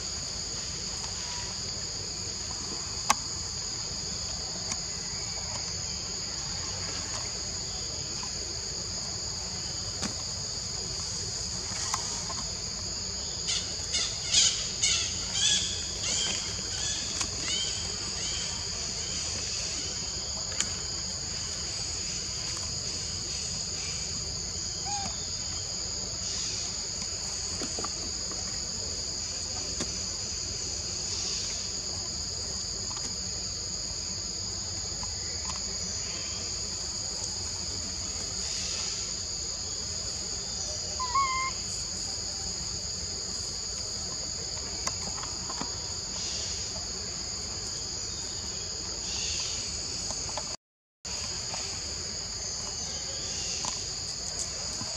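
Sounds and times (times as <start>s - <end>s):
insects buzzing: 0.0s - 54.9s.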